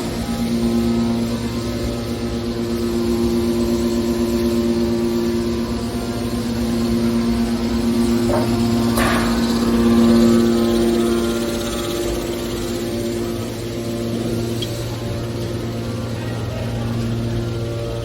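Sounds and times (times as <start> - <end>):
baler machinery humming: 0.0 - 18.0.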